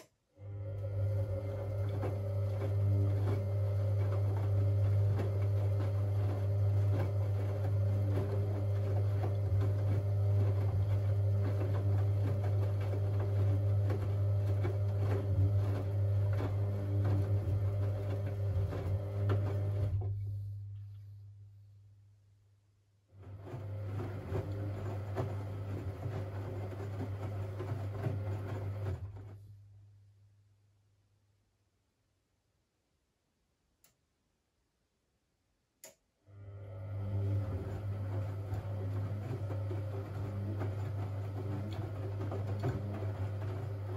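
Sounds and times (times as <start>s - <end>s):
washing machine hum: 0.0s - 21.2s, 23.1s - 30.0s, 36.3s - 43.9s.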